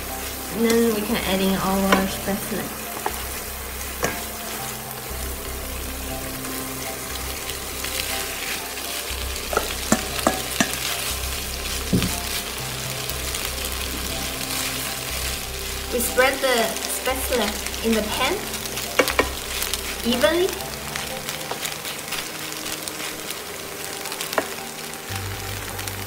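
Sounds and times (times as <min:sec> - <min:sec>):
butter sizzling in frying pan: 0:00.0 - 0:26.0.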